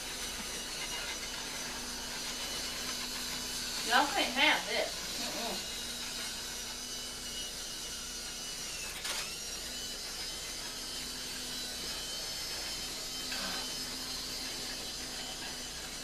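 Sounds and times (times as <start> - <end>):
toy train motor whirring: 0.0 - 16.0.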